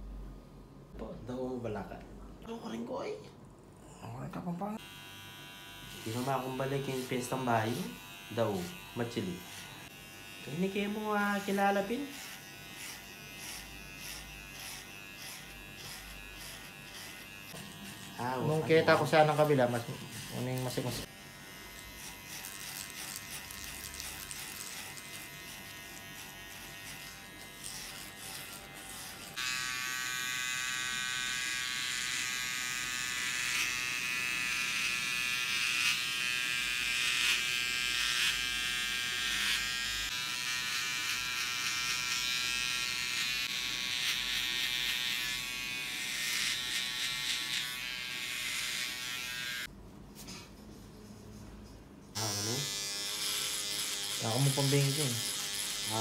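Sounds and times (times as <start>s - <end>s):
hair clipper buzzing: 4.8s - 49.7s, 52.1s - 56.0s.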